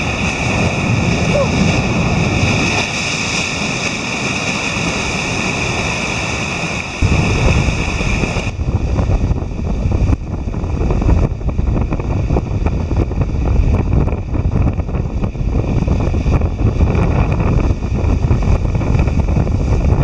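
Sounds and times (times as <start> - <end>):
ocean surf breaking over rocks: 0.0 - 20.0
wind buffeting microphone: 0.0 - 20.0.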